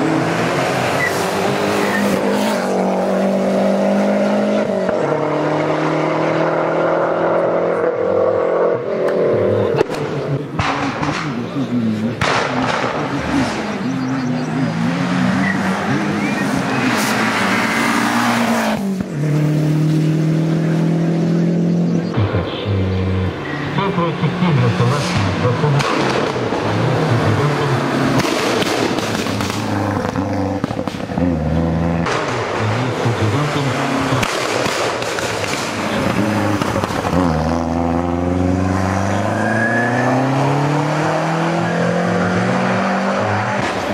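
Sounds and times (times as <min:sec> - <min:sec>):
rally car engine at full throttle: 0:00.0 - 0:43.9.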